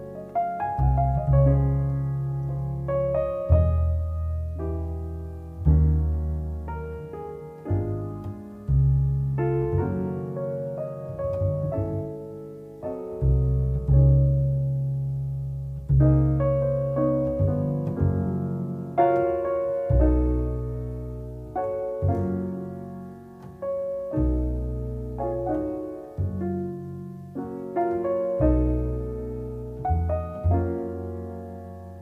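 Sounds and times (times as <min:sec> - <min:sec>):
jazz piano ballad: 0:00.0 - 0:32.0.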